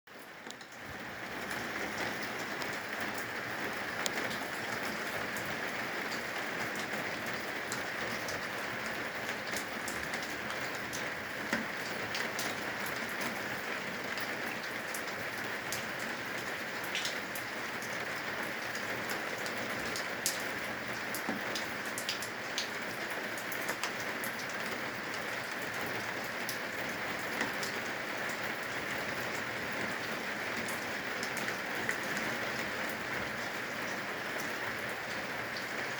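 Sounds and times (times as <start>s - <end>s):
rain hissing on eaves: 0.1s - 35.9s.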